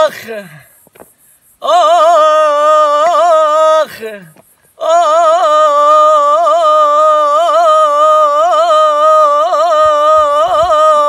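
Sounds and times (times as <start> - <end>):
man singing held vowel with trills: 0.0 - 0.7, 1.6 - 11.0.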